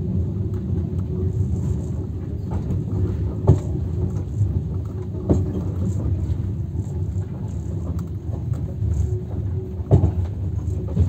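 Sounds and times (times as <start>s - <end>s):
train rumbling inside carriage: 0.0s - 11.0s.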